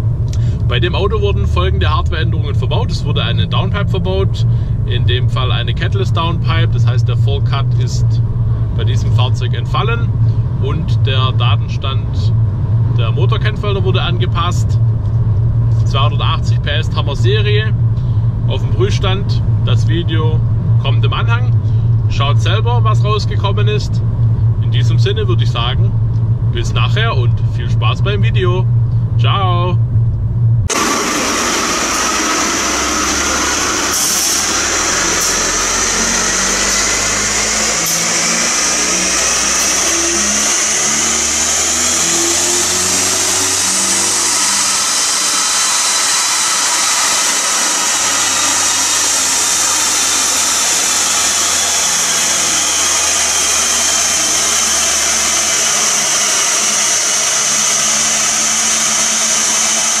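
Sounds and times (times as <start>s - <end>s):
car engine under load: 0.0s - 60.0s
high whine: 0.0s - 60.0s.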